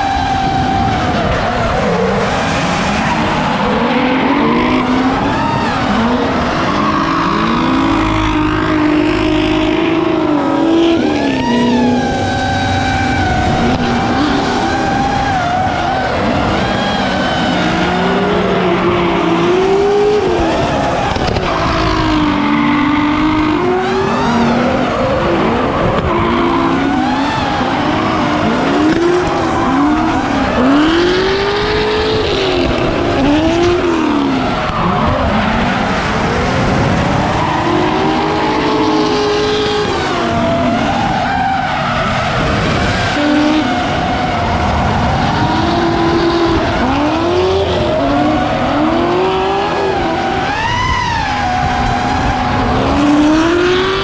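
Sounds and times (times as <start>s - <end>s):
car engines revving: 0.0s - 54.0s
tyres squealing and skidding: 0.0s - 54.0s.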